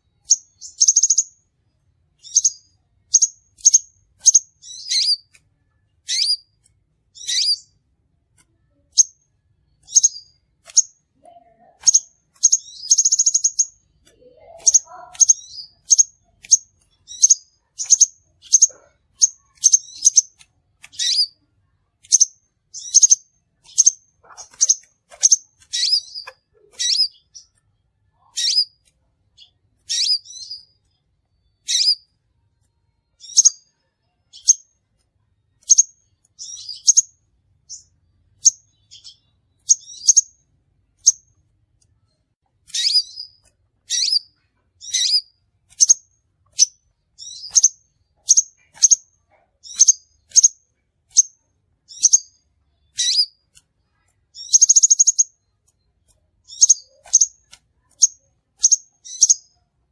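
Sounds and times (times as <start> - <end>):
bird chirping: 0.0 - 7.8, 8.4 - 59.9
buzzy bird trill: 0.2 - 1.4, 2.2 - 5.4, 6.0 - 7.8, 8.9 - 21.4, 22.0 - 27.6, 28.2 - 32.1, 35.6 - 40.4, 42.7 - 55.6, 56.4 - 59.6.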